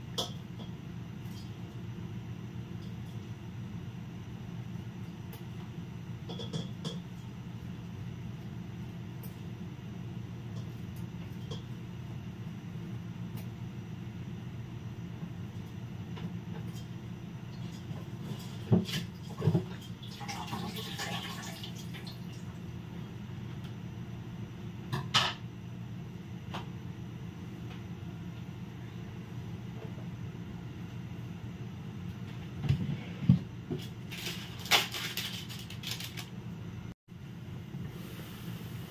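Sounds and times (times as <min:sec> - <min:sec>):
steady low hum: 0:00.0 - 0:20.1, 0:22.2 - 0:38.9.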